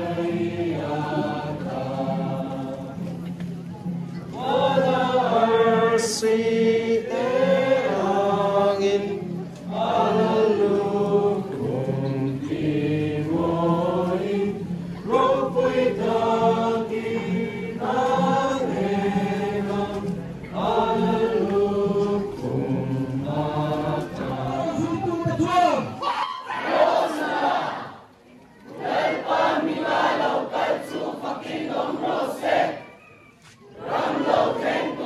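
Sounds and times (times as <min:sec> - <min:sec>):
crowd singing a hymn: 0:00.0 - 0:25.8, 0:26.5 - 0:28.1, 0:28.7 - 0:33.0, 0:33.7 - 0:35.0.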